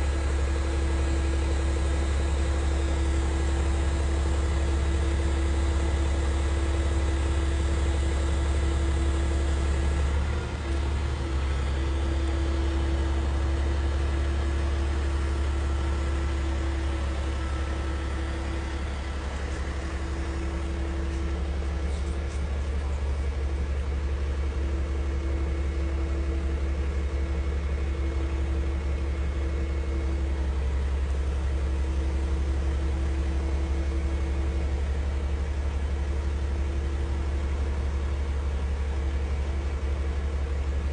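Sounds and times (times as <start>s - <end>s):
heavy equipment engine running: 0.0s - 40.9s.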